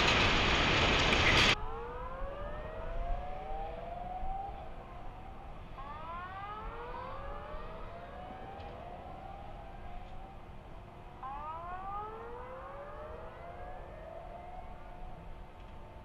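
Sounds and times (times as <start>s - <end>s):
warning siren rising sweeps: 1.5s - 16.0s.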